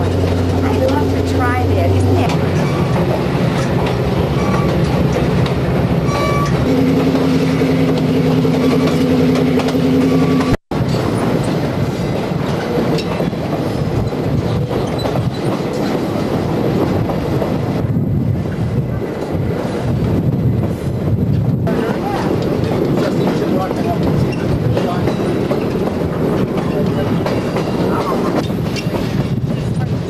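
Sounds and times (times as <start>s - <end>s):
train wheels rumbling and rattling: 0.0s - 30.0s.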